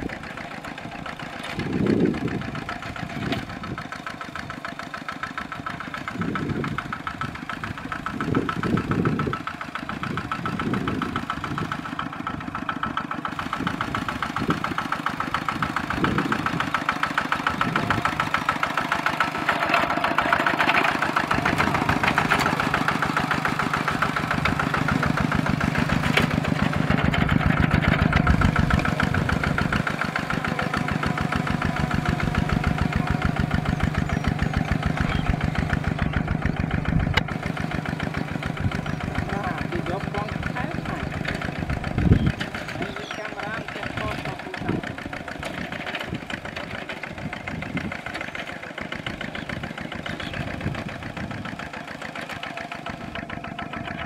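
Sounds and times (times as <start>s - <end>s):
diesel engine chugging under load: 0.0s - 54.0s.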